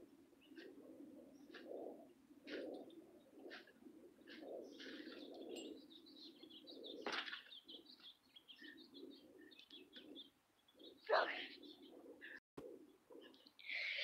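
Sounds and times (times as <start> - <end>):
low bird calls: 0.3 - 14.0.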